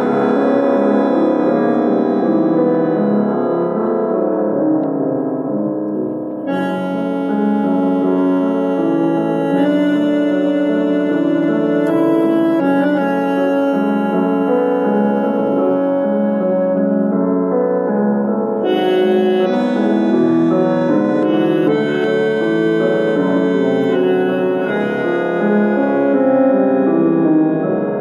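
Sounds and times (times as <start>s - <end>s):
bandoneon playing: 0.0s - 2.6s, 6.5s - 17.1s, 18.6s - 28.0s.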